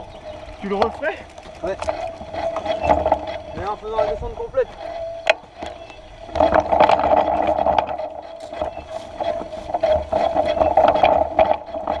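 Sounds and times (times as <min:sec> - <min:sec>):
bike rattling over bumps: 0:00.0 - 0:12.0
mountain bike buzzing on dirt trail: 0:00.0 - 0:12.0.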